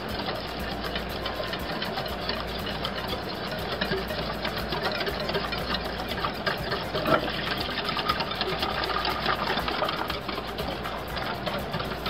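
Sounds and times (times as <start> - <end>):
electric whisk running: 0.0 - 12.0
milk pouring: 0.0 - 12.0.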